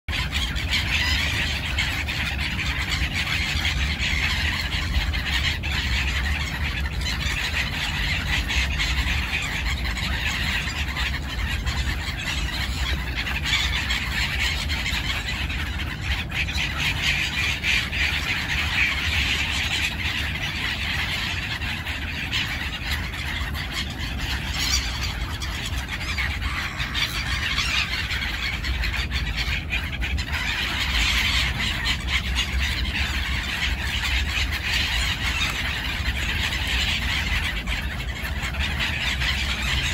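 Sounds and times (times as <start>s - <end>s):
flock of gulls calling: 0.1s - 39.9s.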